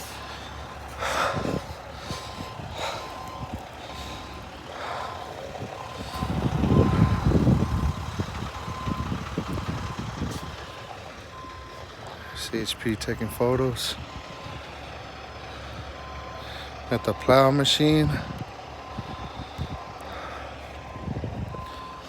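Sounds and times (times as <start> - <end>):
reversing alarm beeping: 0.0 - 22.0
truck engine idling: 0.0 - 22.0.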